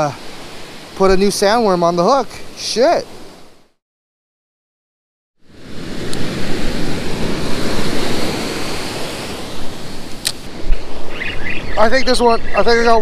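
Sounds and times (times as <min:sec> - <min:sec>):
waves breaking on a beach: 0:00.0 - 0:03.7, 0:05.5 - 0:13.0.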